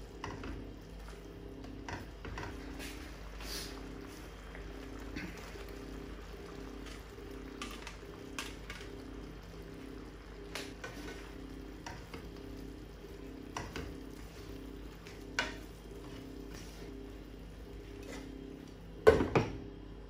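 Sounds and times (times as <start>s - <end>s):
food sizzling in a frying pan: 0.0s - 18.7s.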